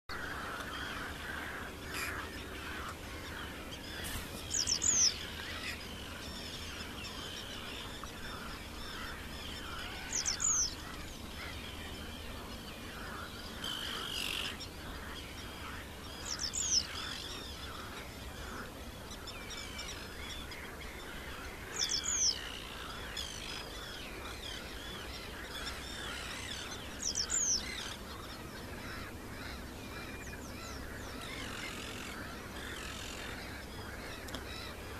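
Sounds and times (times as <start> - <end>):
birds chirping faintly: 0.1 - 34.9.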